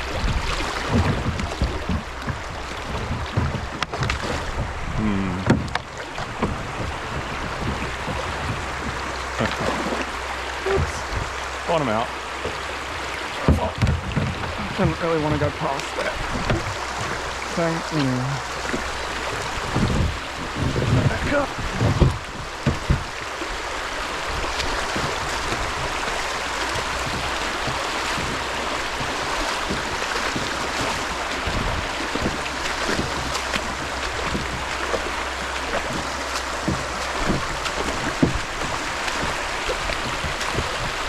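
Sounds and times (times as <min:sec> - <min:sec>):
creek water running over stones: 0:00.0 - 0:41.0
short knocks on kayak: 0:00.0 - 0:41.0.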